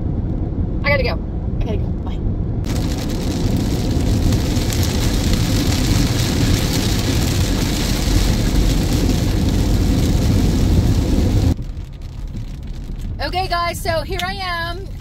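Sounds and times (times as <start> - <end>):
car driving in rain: 2.6 - 15.0.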